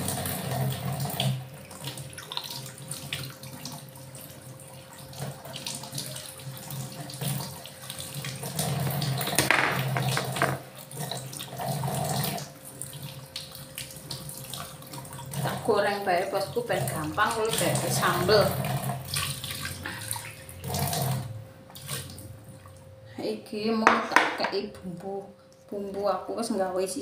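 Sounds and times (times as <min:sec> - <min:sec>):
tap water running into sink: 0:00.0 - 0:22.8.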